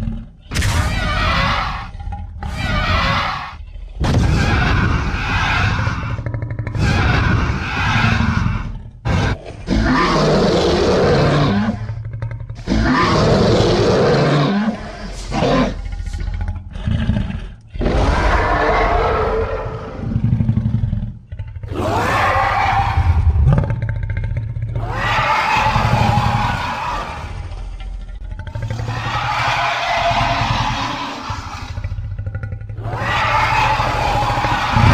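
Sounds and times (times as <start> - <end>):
monster roars and growls: 0.0 - 34.9.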